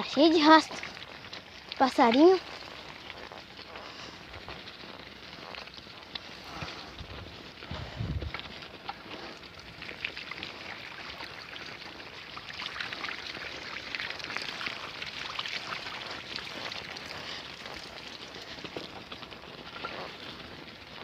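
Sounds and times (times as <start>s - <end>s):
bicycle tyres crunching on dirt: 0.0s - 21.0s.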